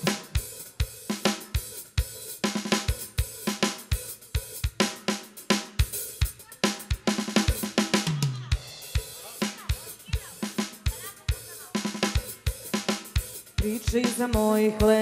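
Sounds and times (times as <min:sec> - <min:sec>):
drum kit fast beat: 0:00.0 - 0:15.0
live party band music: 0:00.0 - 0:15.0.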